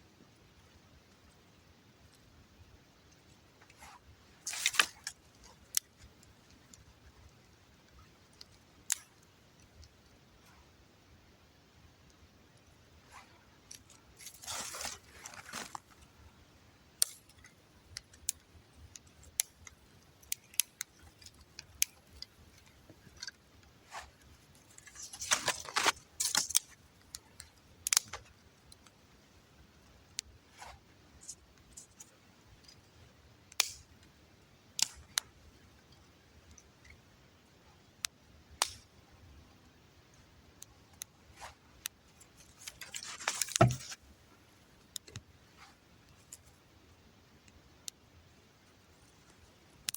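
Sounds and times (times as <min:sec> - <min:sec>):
campfire twigs crackling: 0:00.6 - 0:10.7, 0:12.1 - 0:39.0, 0:40.0 - 0:46.7.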